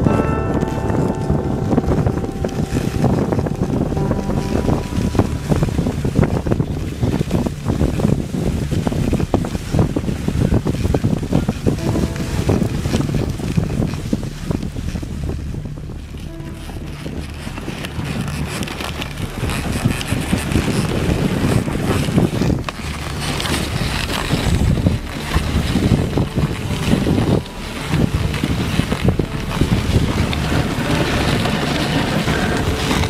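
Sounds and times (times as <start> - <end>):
sled runners crunching on snow: 0.0 - 33.0
wind buffeting microphone: 0.0 - 33.0.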